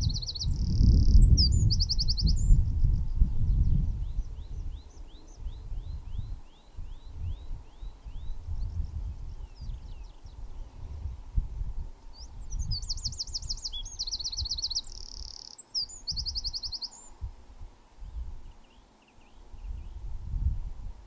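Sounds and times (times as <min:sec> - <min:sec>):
songbird singing trills: 0:00.0 - 0:11.2, 0:12.1 - 0:17.3, 0:18.0 - 0:20.1.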